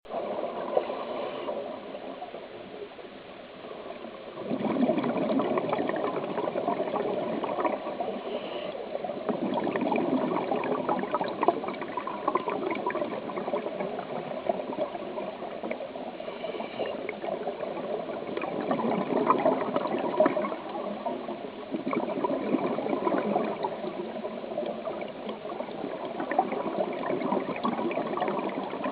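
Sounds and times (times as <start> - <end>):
small crackles: 0.1 - 28.9
water bubbling and gurgling: 0.1 - 28.9.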